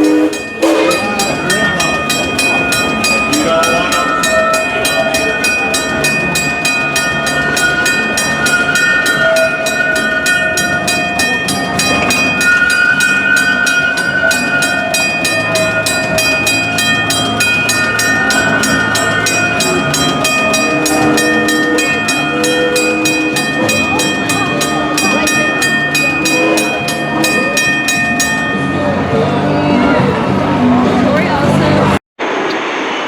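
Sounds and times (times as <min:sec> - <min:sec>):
steady held tones: 0:00.0 - 0:32.0
steam train chugging: 0:00.0 - 0:33.0.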